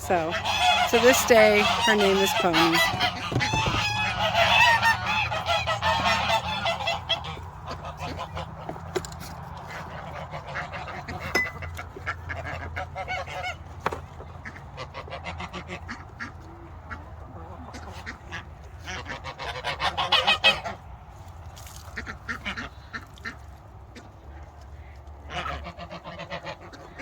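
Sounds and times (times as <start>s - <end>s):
poultry calling: 0.0s - 9.0s, 9.6s - 20.8s, 21.8s - 27.0s.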